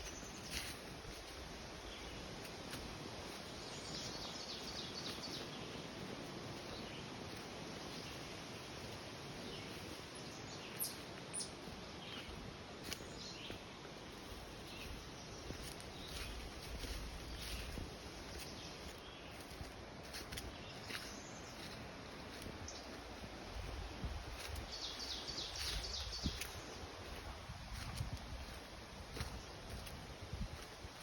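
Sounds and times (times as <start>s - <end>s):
breeze in trees: 0.0s - 31.0s.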